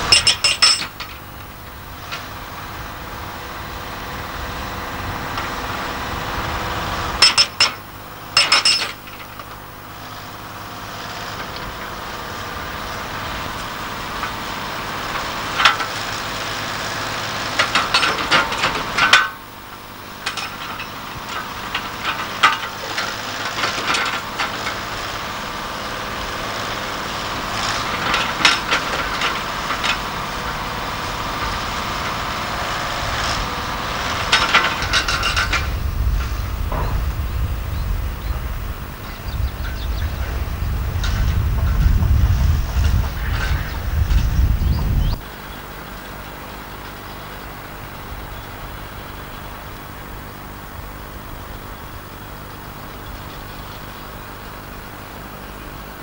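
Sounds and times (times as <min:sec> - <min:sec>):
hydraulic breaker hammering rock: 0:00.0 - 0:50.2
diesel engine running: 0:00.0 - 0:56.0.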